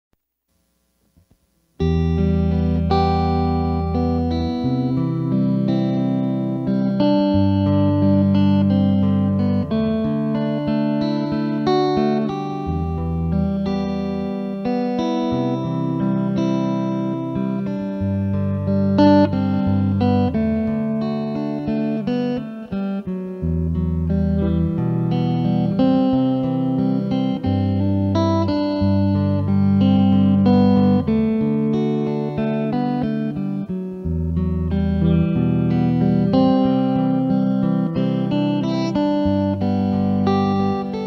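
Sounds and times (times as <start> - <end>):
guitar melody: 1.1 - 41.0.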